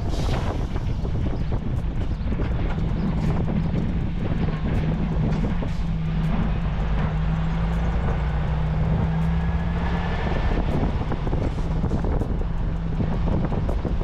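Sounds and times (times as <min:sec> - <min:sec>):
diesel engine and road noise: 0:00.0 - 0:14.0.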